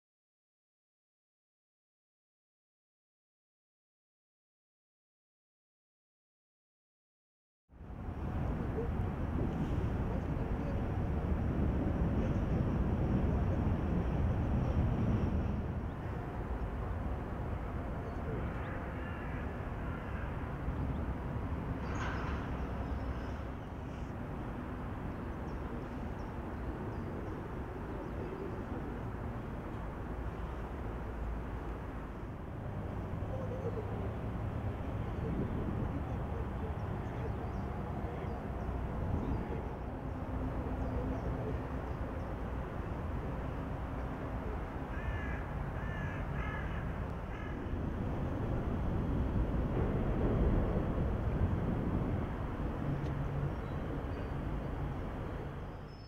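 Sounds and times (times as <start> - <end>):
distant traffic rumble: 7.8 - 56.0.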